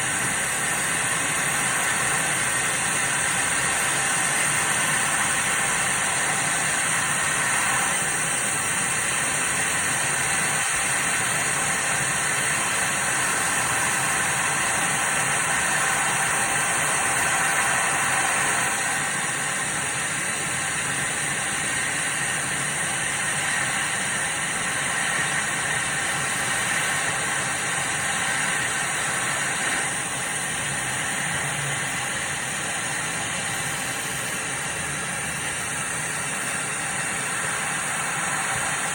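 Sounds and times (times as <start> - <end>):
laser cutter air and fans hissing: 0.0 - 38.9.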